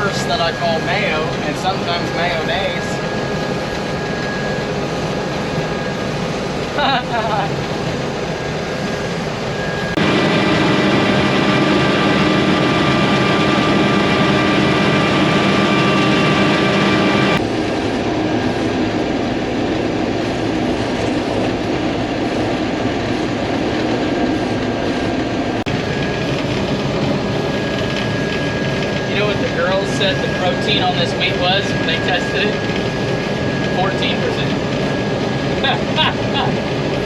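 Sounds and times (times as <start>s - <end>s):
combine harvester drone: 0.0s - 37.0s.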